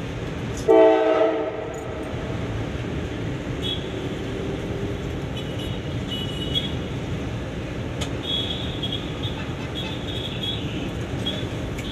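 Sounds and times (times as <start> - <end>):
train rumbling on track: 0.0 - 11.9.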